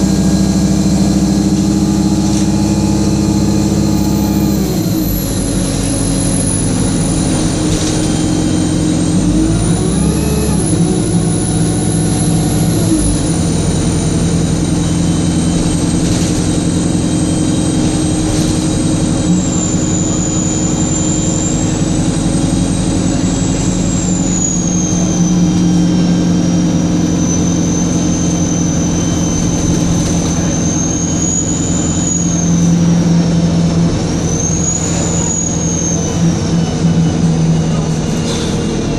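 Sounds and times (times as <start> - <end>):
diesel bus engine running: 0.0 - 38.9
turbocharger whine: 0.0 - 38.9.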